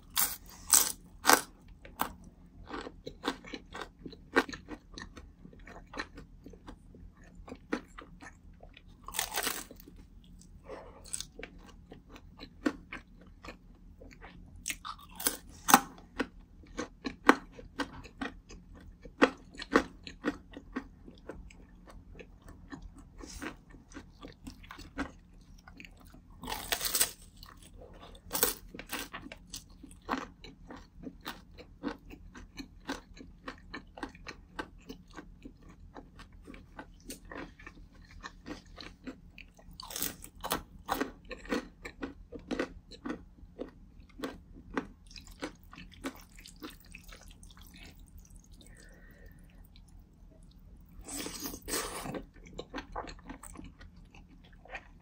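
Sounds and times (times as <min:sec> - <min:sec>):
crunching of crispy food: 0:00.0 - 0:55.0.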